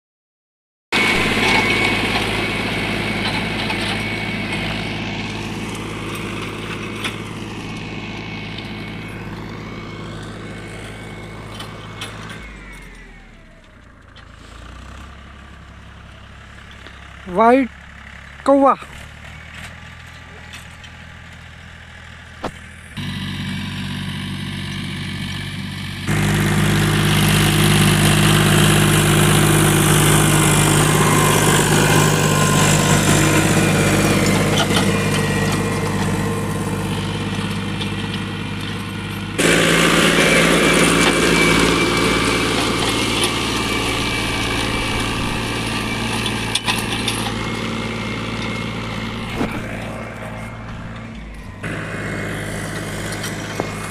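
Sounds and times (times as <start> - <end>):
diesel tractor engine: 0.9 - 53.9.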